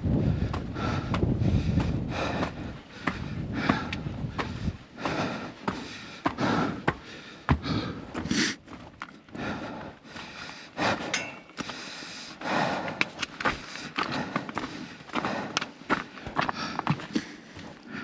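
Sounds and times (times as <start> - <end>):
footsteps on trail steps: 0.0 - 18.0
person breathing close: 0.0 - 18.0.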